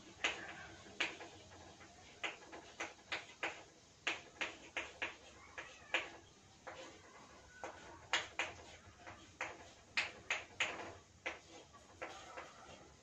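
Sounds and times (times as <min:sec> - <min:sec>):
chalk tapping on chalkboard: 0:00.2 - 0:12.8.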